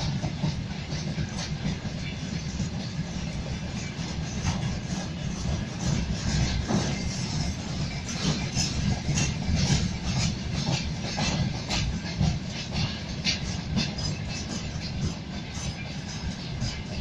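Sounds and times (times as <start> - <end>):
rumble of wheels on rail: 0.0 - 17.0
wheels clacking over rail joints: 0.0 - 17.0.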